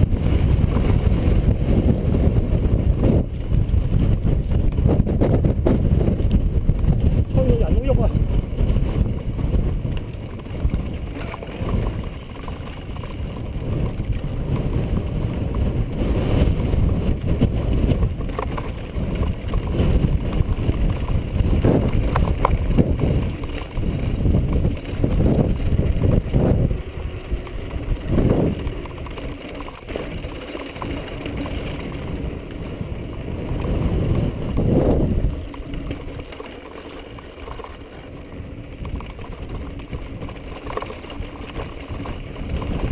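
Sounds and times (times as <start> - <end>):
bike knocking and rattling: 0.0 - 42.9
wind buffeting microphone: 0.0 - 42.9.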